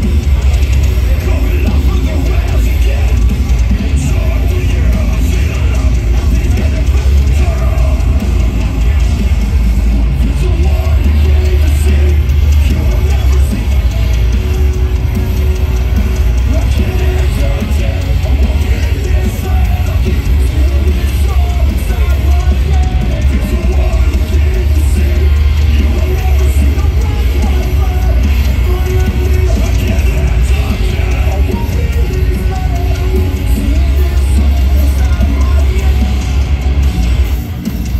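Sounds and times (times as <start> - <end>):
live metal band playing: 0.0 - 37.9.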